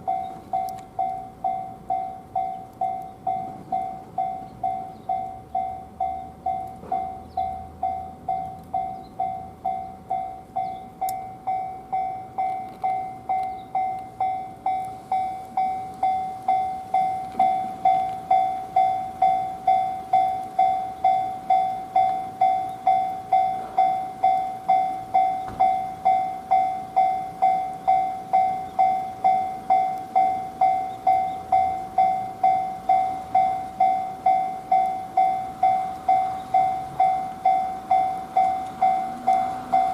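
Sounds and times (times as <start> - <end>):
level-crossing warning bell: 0.0 - 39.9.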